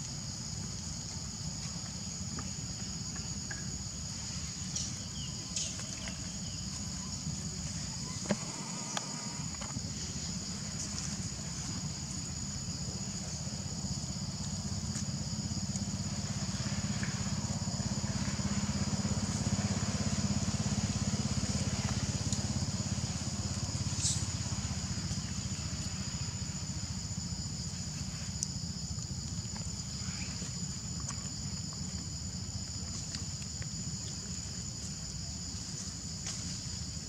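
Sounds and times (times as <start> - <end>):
high-pitched insect drone: 0.2 - 37.0.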